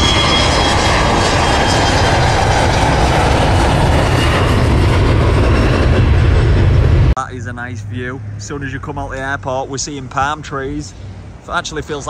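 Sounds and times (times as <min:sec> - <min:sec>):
jet engine rush: 0:00.0 - 0:12.0.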